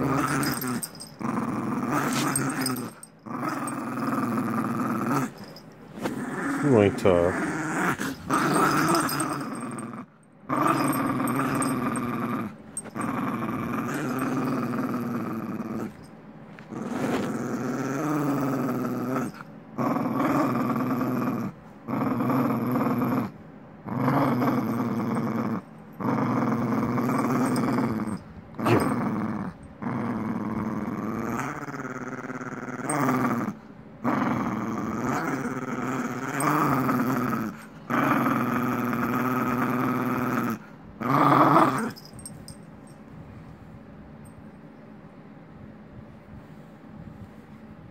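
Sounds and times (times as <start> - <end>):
small dog growling: 0.0 - 42.4.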